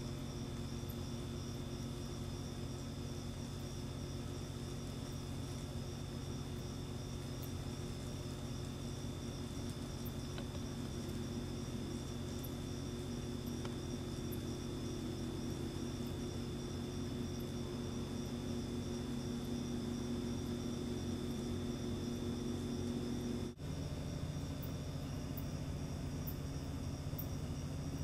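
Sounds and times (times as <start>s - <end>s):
crickets trilling: 0.0s - 28.0s
steady low hum: 0.0s - 28.0s.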